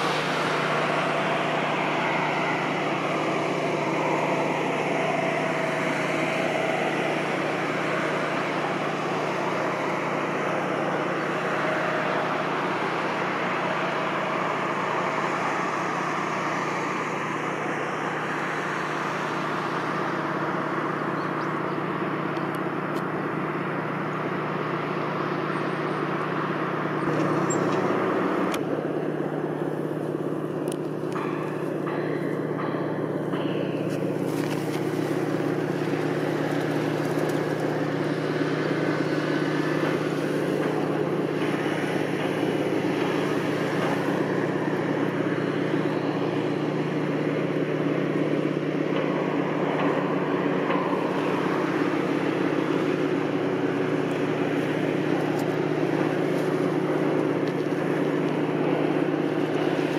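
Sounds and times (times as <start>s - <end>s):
low engine drone: 0.0s - 59.9s
outdoor noise haze: 0.0s - 59.9s.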